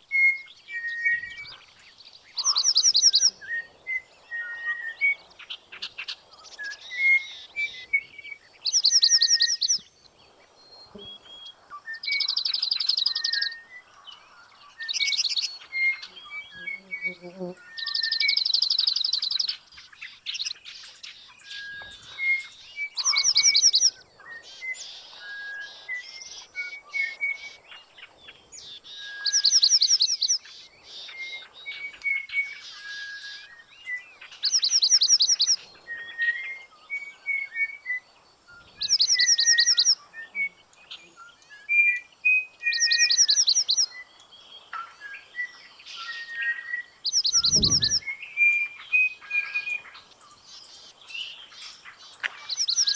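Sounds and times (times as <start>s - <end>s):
whistled bird notes: 0.0s - 9.9s, 10.6s - 27.6s, 28.6s - 52.9s
songbird trilling: 2.3s - 9.9s, 10.8s - 24.0s, 28.9s - 31.5s, 33.4s - 52.9s.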